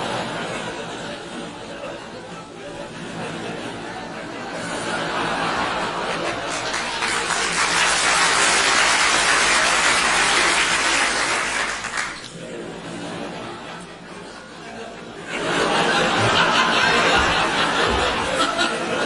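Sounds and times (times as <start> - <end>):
studio audience laughing: 0.0 - 19.0.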